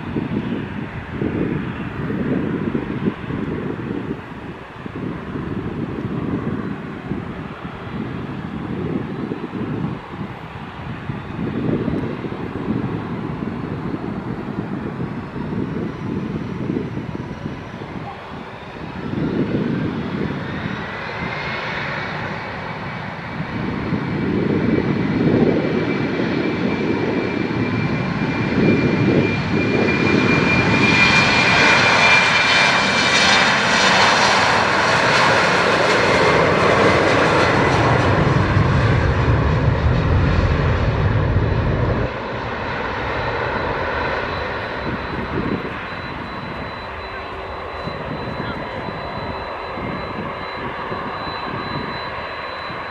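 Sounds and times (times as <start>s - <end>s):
jet engines passing: 0.0s - 52.9s.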